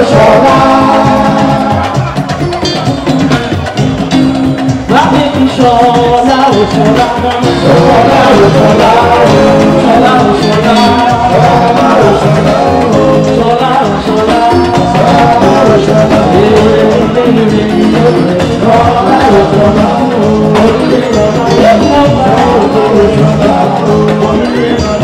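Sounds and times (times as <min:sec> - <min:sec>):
electric guitar: 0:00.0 - 0:25.0
keyboard: 0:00.0 - 0:25.0.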